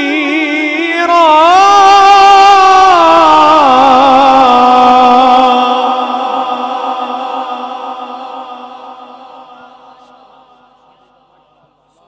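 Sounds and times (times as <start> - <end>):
man chanting over loudspeaker: 0.0 - 12.0.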